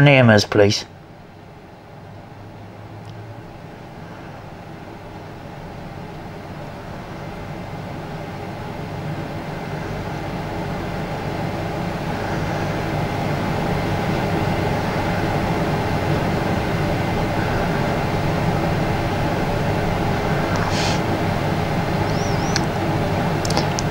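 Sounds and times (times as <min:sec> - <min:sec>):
low hum with held tones: 0:00.0 - 0:23.9.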